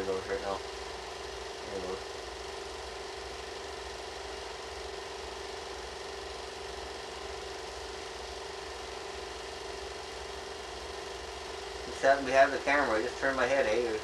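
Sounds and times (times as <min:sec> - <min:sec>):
low rattle and hiss: 0:00.0 - 0:14.0
steady mechanical hum: 0:00.0 - 0:14.0.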